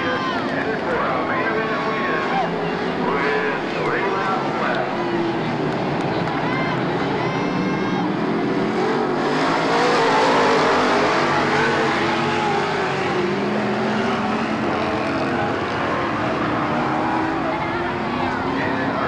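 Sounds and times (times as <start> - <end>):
race car engines running hard: 0.0 - 19.0.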